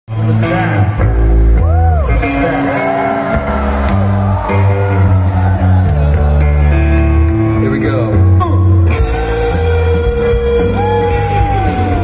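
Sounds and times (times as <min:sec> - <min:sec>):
rock band playing live: 0:00.1 - 0:12.0.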